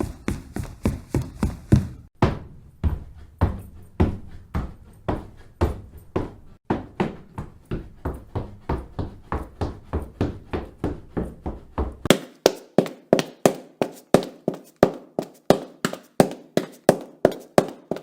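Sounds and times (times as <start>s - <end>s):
sharp footsteps: 0.0s - 2.1s, 2.8s - 18.0s.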